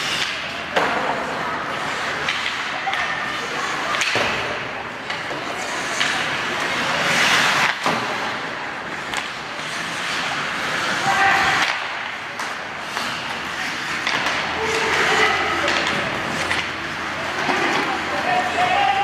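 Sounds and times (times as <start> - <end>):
skate blades scraping on ice: 0.0 - 19.0
hockey sticks and puck knocking: 2.1 - 3.1, 3.8 - 19.0.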